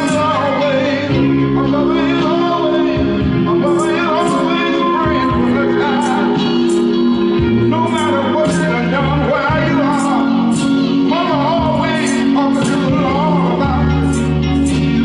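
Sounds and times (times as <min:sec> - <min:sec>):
held chords: 0:00.0 - 0:15.0
person singing: 0:00.0 - 0:15.0
crisp percussion beat: 0:02.2 - 0:15.0.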